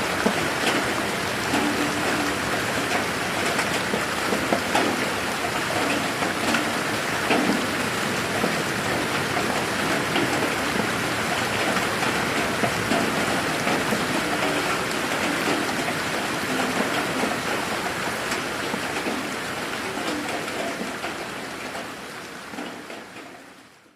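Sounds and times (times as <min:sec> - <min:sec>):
rain pattering on a garden: 0:00.0 - 0:23.9.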